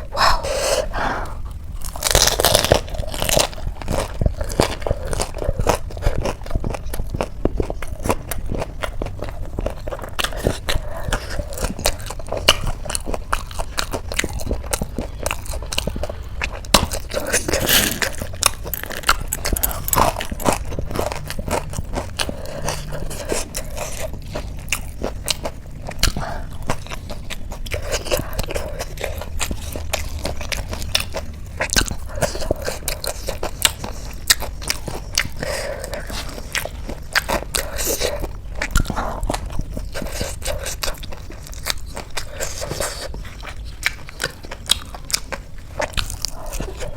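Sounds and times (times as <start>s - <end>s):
crunchy snacks being chewed: 0.0s - 46.9s.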